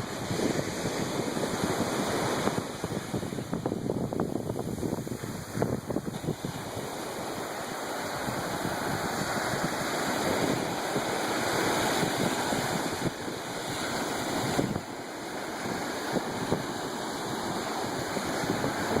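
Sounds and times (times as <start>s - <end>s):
ocean surf washing: 0.0s - 19.0s
wind buffeting microphone: 0.0s - 19.0s.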